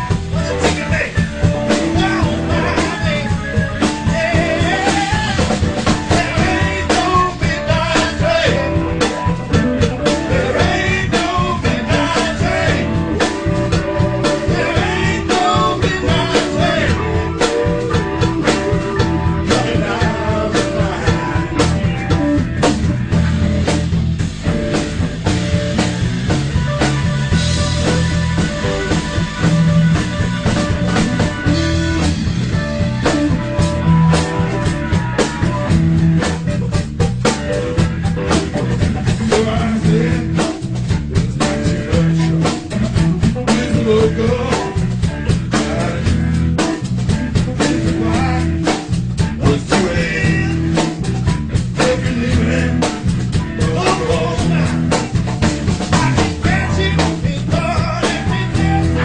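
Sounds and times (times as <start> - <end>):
bass guitar: 0.0 - 59.0
drum kit beat: 0.0 - 59.0
electric guitar: 0.0 - 59.0.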